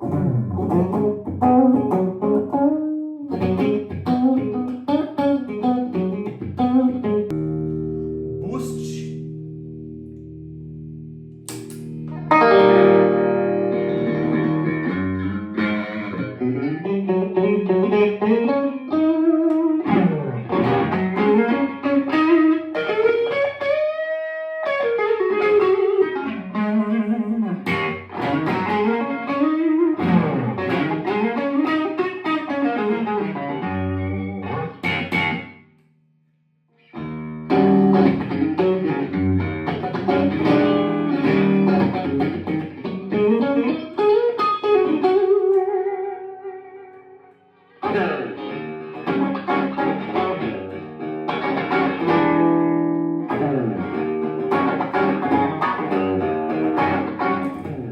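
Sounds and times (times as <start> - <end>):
electric guitar melodic phrases: 0.0 - 35.8, 36.8 - 57.9.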